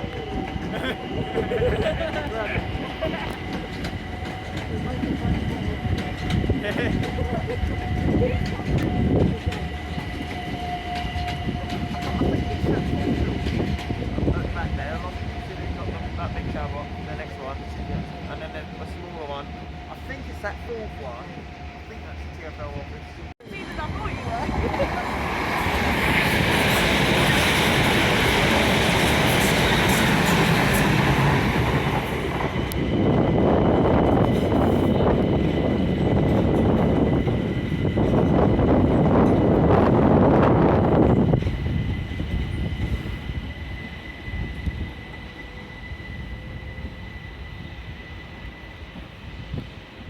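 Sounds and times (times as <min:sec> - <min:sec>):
train rumbling past on rails: 0:00.0 - 0:50.0.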